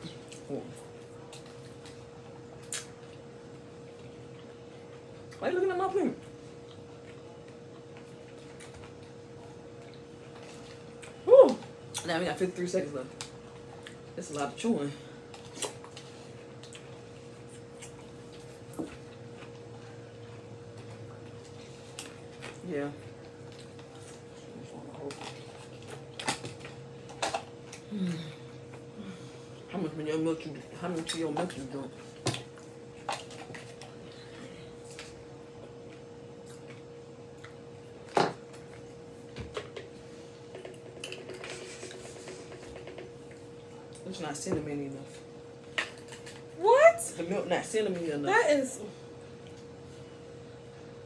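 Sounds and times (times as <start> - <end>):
faint chewing of food: 0.0 - 5.4, 6.2 - 12.1, 13.1 - 14.2, 15.1 - 29.7, 31.0 - 44.1, 49.1 - 50.2
steady electrical hum: 0.0 - 51.0.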